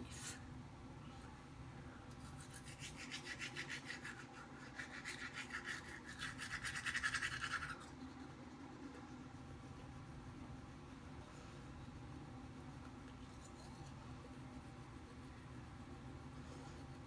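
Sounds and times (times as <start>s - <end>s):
toothbrush scrubbing teeth: 2.1s - 17.0s.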